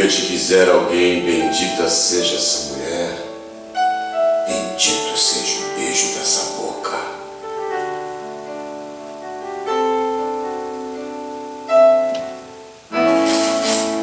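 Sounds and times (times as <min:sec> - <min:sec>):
hissing rustling layer: 0:00.0 - 0:14.0
slow piano chords: 0:00.0 - 0:14.0.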